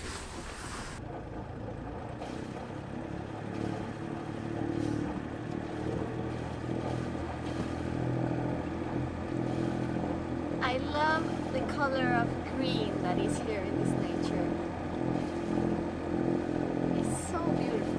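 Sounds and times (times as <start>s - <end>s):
boat engine humming: 0.0s - 17.9s.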